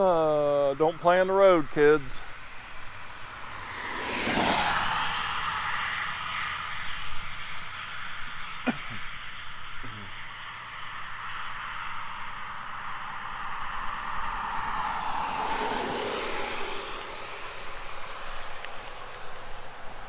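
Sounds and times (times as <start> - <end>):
car passing by: 0.0 - 9.5, 10.3 - 20.0.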